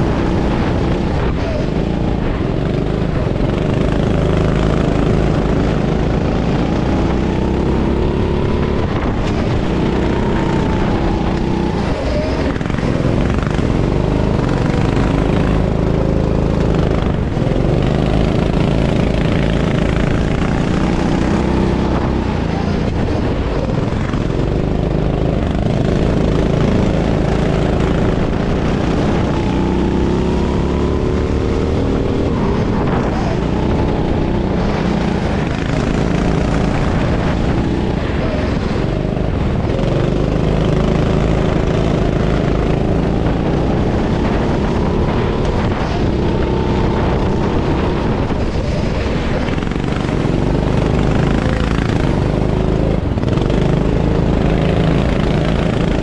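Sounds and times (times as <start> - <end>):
racing kart engine revving: 0.0 - 56.0.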